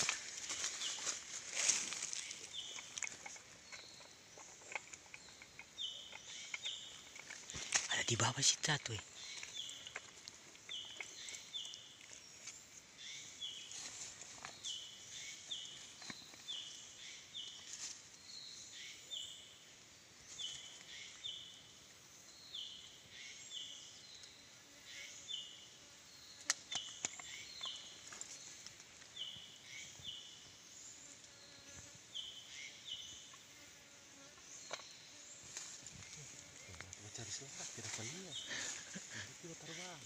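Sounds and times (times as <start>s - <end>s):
insects buzzy chirping: 0.0s - 40.0s.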